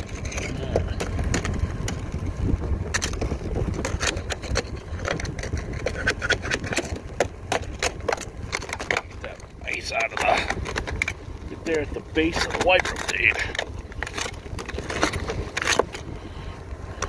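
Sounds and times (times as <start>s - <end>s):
ice cracking and crunching: 0.0s - 17.0s
steady low rumble: 0.0s - 17.0s.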